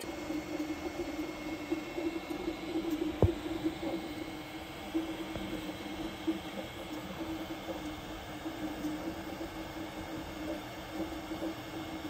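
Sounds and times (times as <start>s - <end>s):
printer stepper motors humming: 0.0s - 12.0s.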